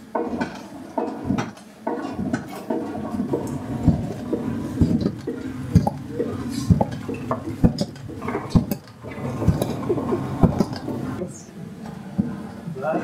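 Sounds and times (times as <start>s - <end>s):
wooden paddle stirring stew: 0.0s - 11.2s
paddle knocking against metal pot: 0.2s - 10.9s.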